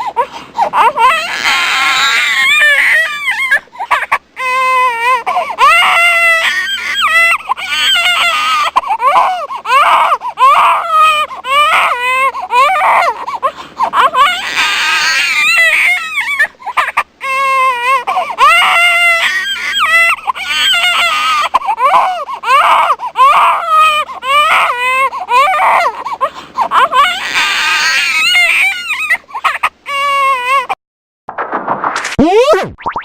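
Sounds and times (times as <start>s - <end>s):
infant crying: 0.0s - 30.8s.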